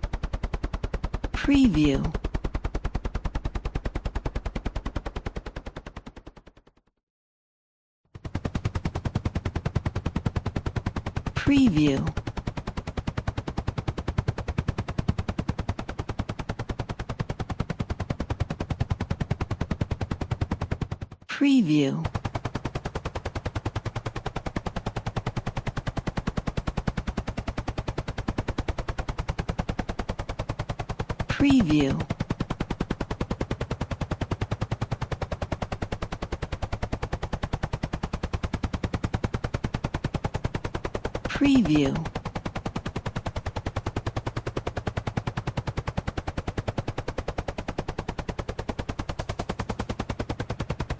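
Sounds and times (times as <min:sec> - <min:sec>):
helicopter rotor blades chopping: 0:00.0 - 0:06.7, 0:08.2 - 0:50.9.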